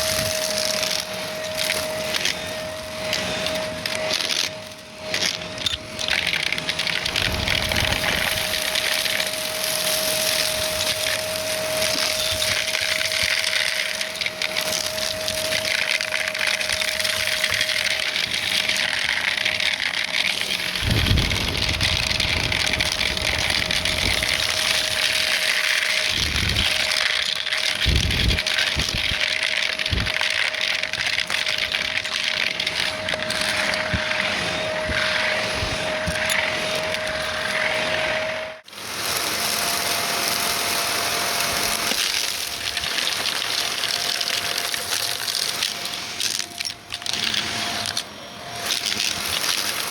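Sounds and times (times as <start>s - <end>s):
debris crackling: 0.0s - 49.9s
vacuum cleaner running: 0.0s - 49.9s.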